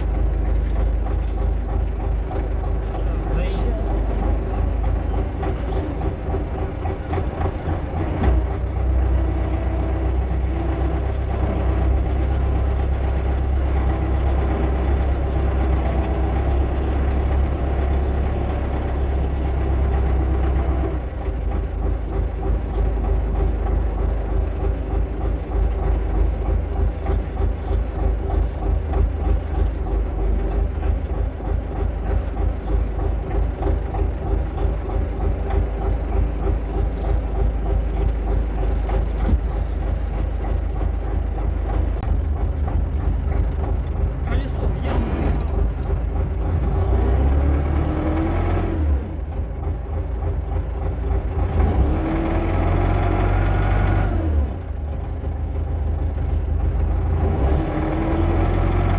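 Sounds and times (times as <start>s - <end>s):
tractor engine droning: 0.0s - 58.9s.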